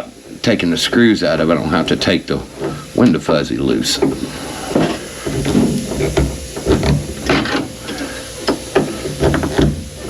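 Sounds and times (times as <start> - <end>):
knocks taps and rubbing scrapes: 1.8 - 10.0.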